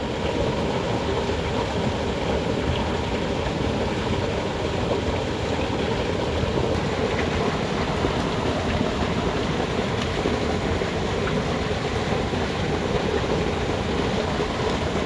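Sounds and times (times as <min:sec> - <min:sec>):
water rushing through channel: 0:00.0 - 0:15.0.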